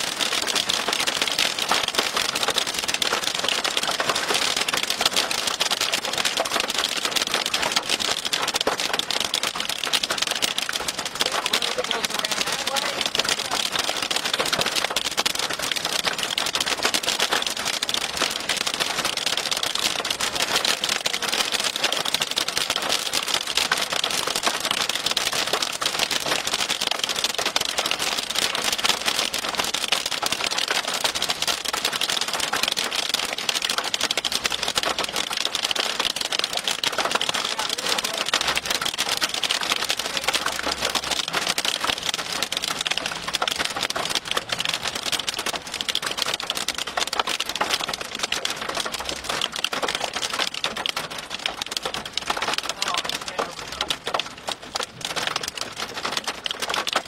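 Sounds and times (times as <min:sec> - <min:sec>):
heavy rain on car roof: 0:00.0 - 0:57.0.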